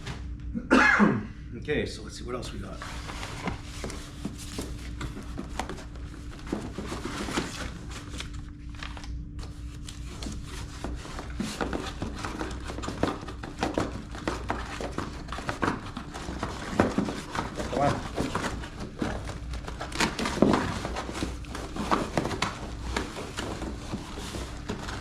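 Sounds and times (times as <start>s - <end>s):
packaging rustling and crinkling: 2.8s - 25.0s.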